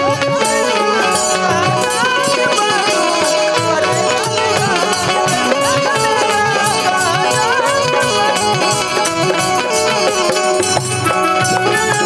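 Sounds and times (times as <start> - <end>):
fast drum beat: 0.0 - 12.0
pitch-bending melody line: 0.0 - 12.0.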